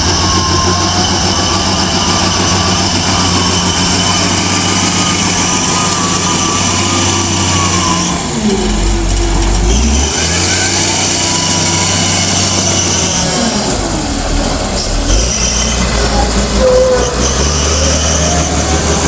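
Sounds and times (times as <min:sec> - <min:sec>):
wheel loader diesel engine: 0:00.0 - 0:19.0.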